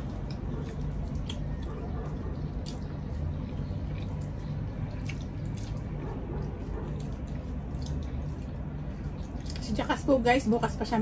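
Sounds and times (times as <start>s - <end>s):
wet chewing mouth sounds: 0.0s - 10.2s
steady low hum: 0.0s - 11.0s.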